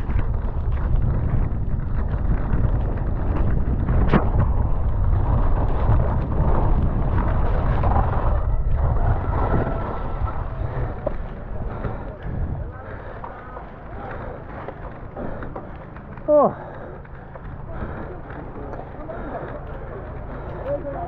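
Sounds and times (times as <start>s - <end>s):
bike tyres rumbling over dirt: 0.0s - 21.0s
wind buffeting microphone: 0.0s - 21.0s.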